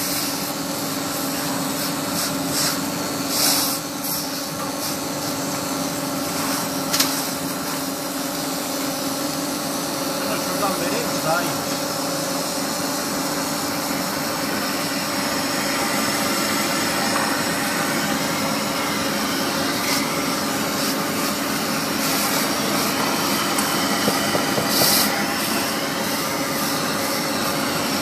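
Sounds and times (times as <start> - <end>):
welding machine running: 0.0 - 28.0.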